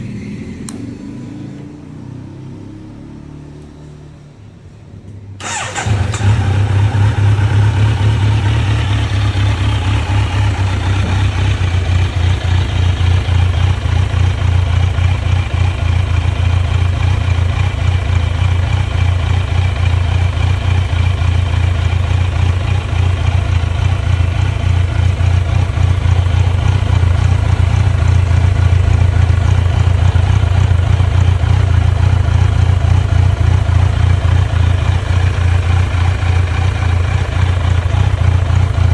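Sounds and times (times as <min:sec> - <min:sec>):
motorcycle engine starting and idling: 0:05.0 - 0:38.9.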